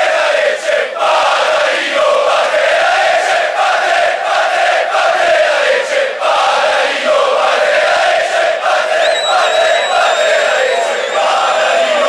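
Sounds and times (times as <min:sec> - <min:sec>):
crowd chanting: 0:00.0 - 0:12.0.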